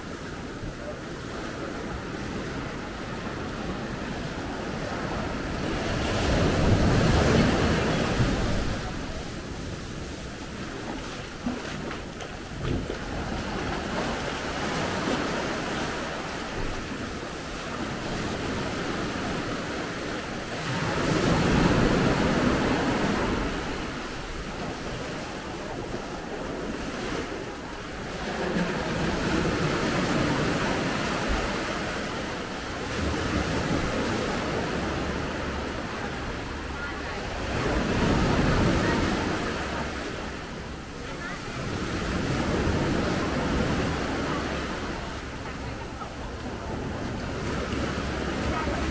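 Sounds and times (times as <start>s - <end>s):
sea surf rushing: 0.0s - 48.9s
wind: 0.0s - 48.9s.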